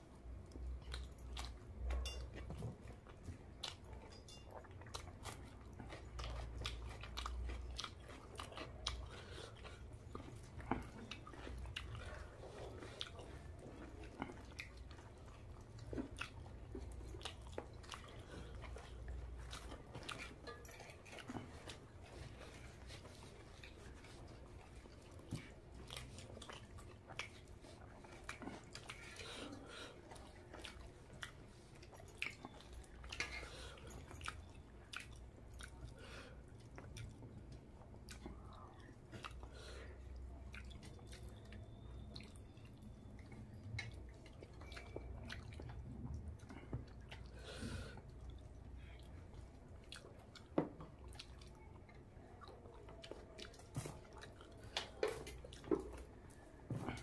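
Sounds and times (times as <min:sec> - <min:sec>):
close chewing: 0:00.0 - 0:57.0.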